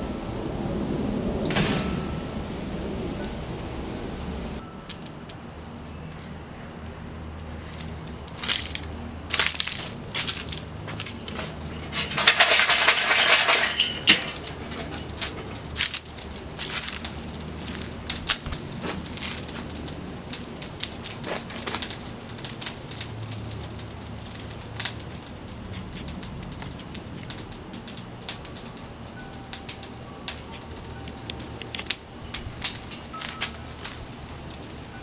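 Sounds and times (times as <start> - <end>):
charcoal crackling and popping: 0.0 - 3.7, 4.6 - 35.0.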